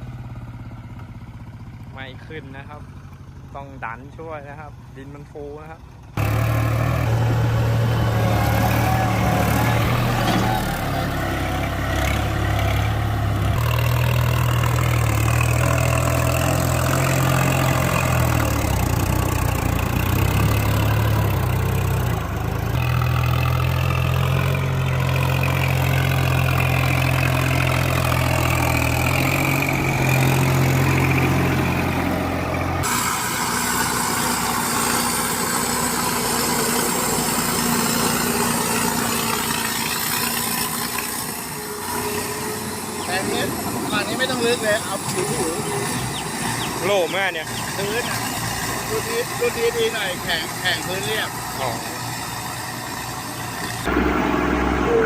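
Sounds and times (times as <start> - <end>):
tractor engine running: 0.0 - 55.0
higher-pitched engine: 6.2 - 55.0.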